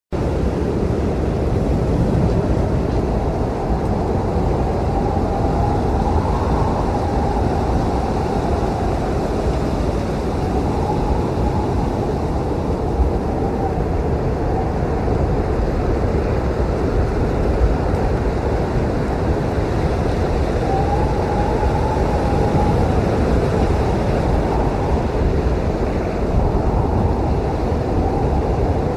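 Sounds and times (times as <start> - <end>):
blizzard wind roaring: 0.1 - 28.9
whistling wind howl: 0.1 - 28.9.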